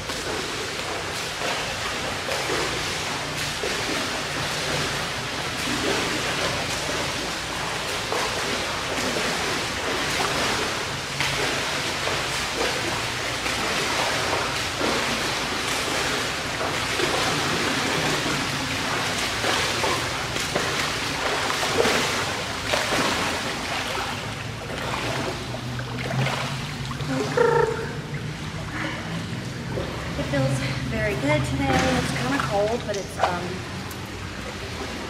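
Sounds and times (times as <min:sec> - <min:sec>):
steady low hum: 0:00.0 - 0:35.0
swimmer splashing water: 0:00.0 - 0:35.0.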